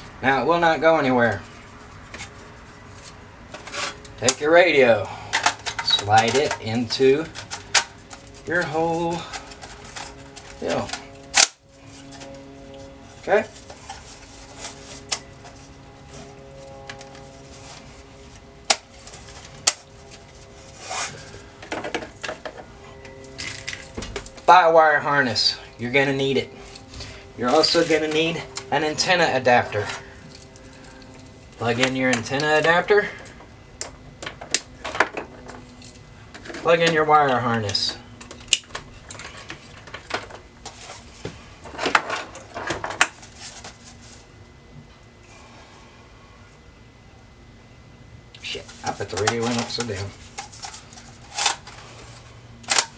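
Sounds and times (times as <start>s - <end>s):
rustling and handling noise: 1.3s - 24.6s, 25.2s - 32.9s, 34.2s - 44.6s, 48.4s - 52.9s.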